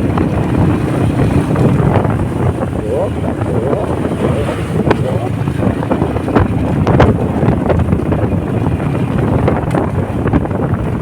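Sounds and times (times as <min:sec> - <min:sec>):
motorcycle engine: 0:00.0 - 0:11.0
road noise: 0:00.0 - 0:11.0
wind buffeting microphone: 0:00.0 - 0:11.0.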